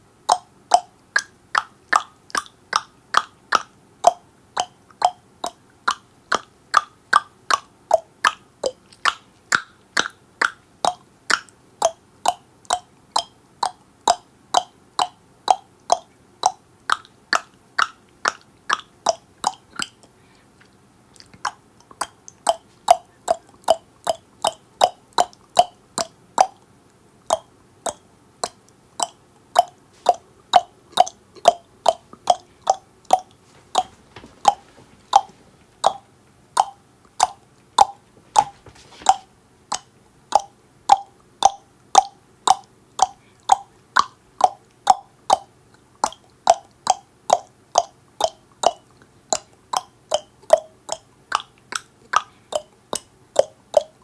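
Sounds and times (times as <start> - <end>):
tongue clicks: 0.2 - 54.0.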